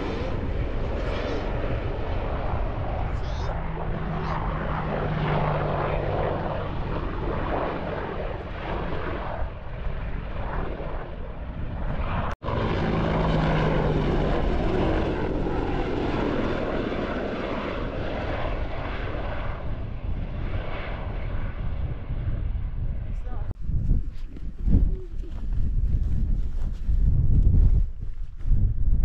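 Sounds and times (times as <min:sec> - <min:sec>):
helicopters flying overhead: 0:00.0 - 0:26.6.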